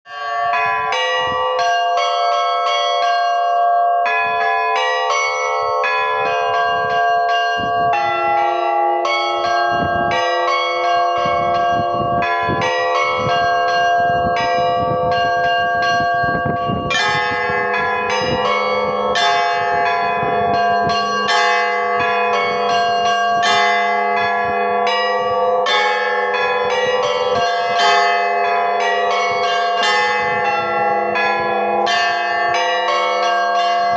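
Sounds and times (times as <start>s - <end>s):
church bells ringing: 0.1s - 33.9s
deep bell humming: 0.1s - 33.9s.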